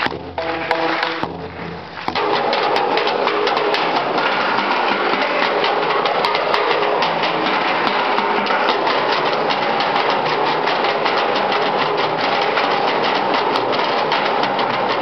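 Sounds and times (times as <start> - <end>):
drumming on water-filled barrels: 0.0 - 15.0.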